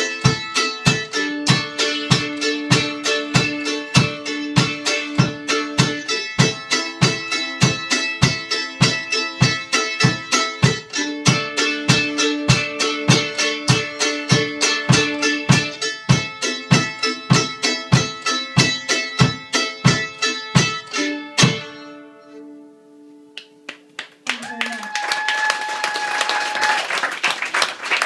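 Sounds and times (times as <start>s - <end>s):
plucked string folk song: 0.0s - 24.0s.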